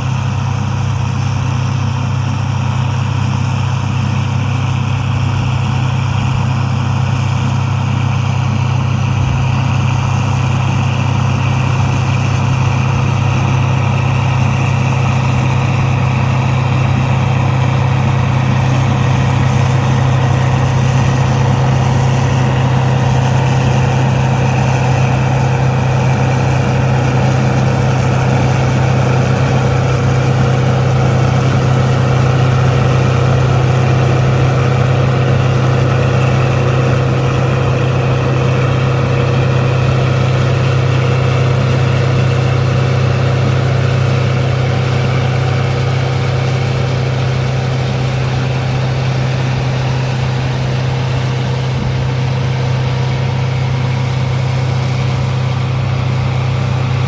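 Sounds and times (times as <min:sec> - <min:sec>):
heavy machine engine droning: 0:00.0 - 0:57.0.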